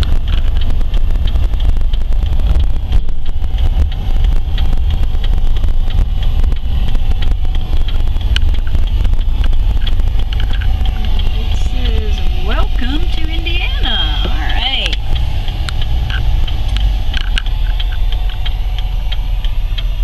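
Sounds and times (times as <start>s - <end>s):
van engine and road rumble: 0.0s - 20.0s
wind noise: 0.0s - 20.0s.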